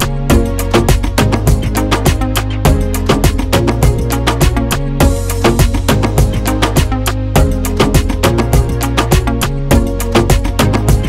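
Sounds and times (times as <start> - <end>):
fast beat music with bass: 0.0 - 11.0.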